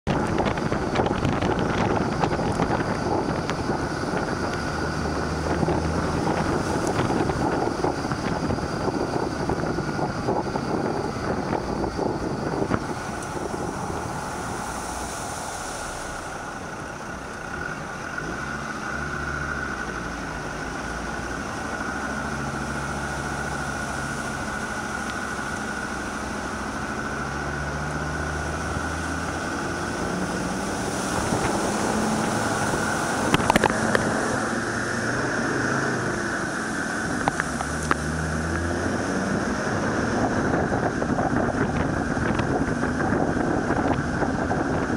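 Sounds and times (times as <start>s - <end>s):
vehicle engine: 0.0s - 44.9s
wind and water rushing: 0.1s - 44.9s.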